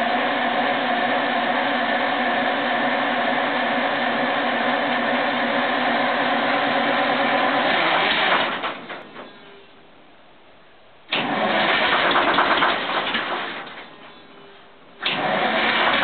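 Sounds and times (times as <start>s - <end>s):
diesel engine running: 0.0s - 10.0s, 11.1s - 16.0s.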